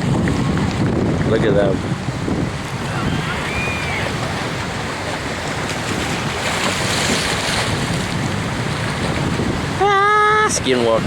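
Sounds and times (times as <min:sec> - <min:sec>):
surf hissing on beach: 0:00.0 - 0:11.0
wind buffeting microphone: 0:00.0 - 0:11.0.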